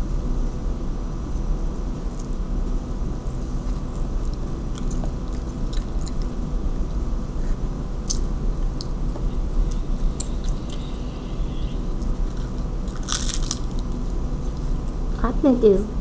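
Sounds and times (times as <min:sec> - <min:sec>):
steady low hum: 0:00.0 - 0:16.0
chewing crunchy taco shell: 0:02.1 - 0:15.1.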